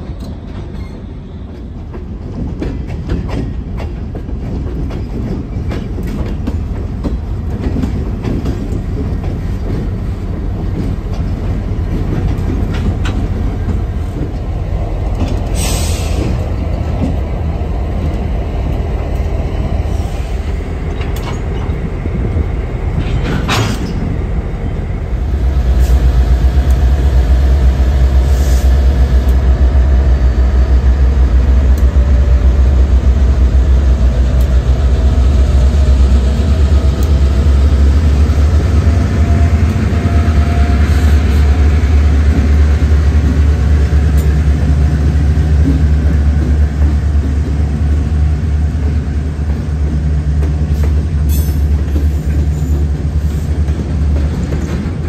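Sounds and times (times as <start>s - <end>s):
diesel locomotive engine rumble: 0.0s - 55.0s.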